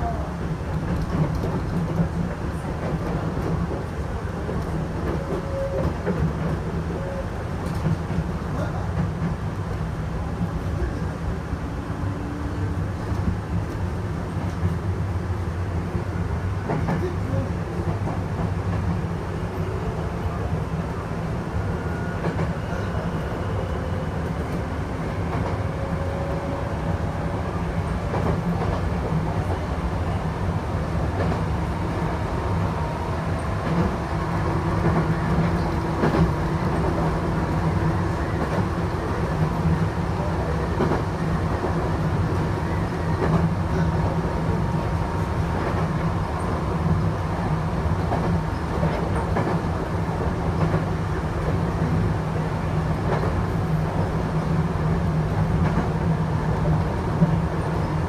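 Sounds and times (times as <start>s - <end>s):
faint train whine: 0.0s - 58.0s
train wheels rumbling on rail: 0.0s - 58.0s.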